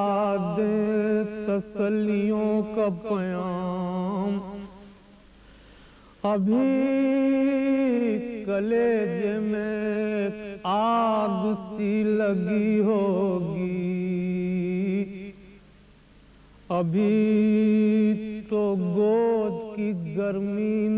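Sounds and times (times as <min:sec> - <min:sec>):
man singing unaccompanied: 0:00.0 - 0:05.2, 0:06.2 - 0:15.6, 0:16.7 - 0:20.9.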